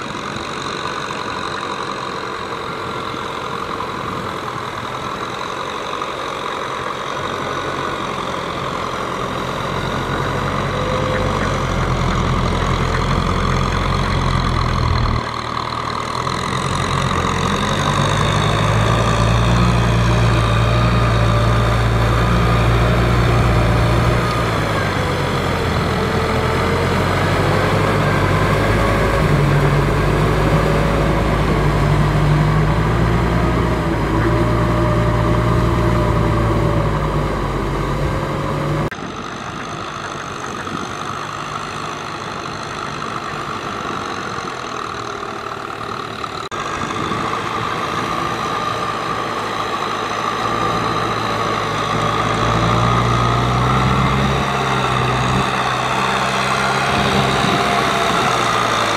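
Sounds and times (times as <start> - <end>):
tractor engine running under load: 0.0 - 58.9.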